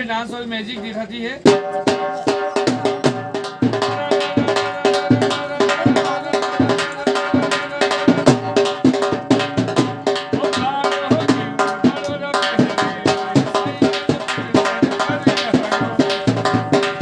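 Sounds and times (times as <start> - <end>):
fast busy drum beat: 0.0 - 17.0
steady held tones: 0.2 - 17.0.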